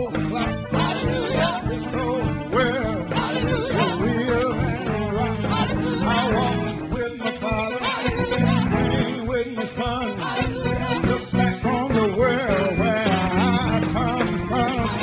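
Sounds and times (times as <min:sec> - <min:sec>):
church choir and band: 0:00.0 - 0:15.0.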